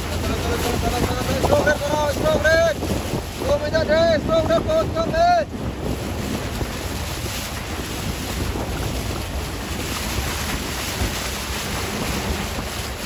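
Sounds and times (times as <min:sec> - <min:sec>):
choppy water washing: 0:00.0 - 0:13.0
wind rumble on microphone: 0:00.0 - 0:13.0.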